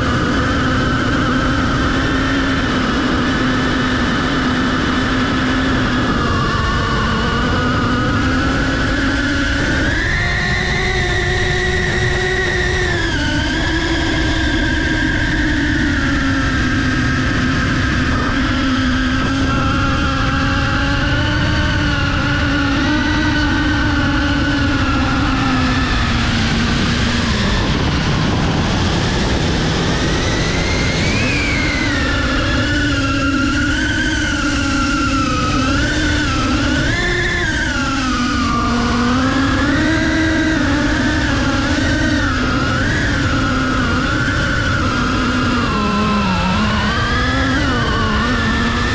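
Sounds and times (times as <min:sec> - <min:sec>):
drone motors whining: 0:00.0 - 0:48.9
wind rush: 0:00.0 - 0:48.9.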